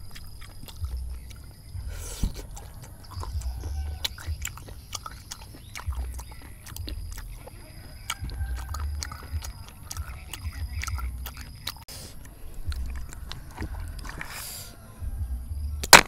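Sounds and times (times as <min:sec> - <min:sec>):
snail shells clicking and scraping: 0:00.0 - 0:14.8
person chewing snails: 0:00.0 - 0:16.0.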